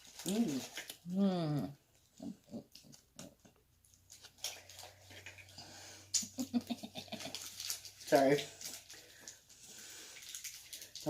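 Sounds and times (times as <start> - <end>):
candy wrapper crinkling: 0.0 - 1.2, 2.0 - 5.5, 6.1 - 11.0.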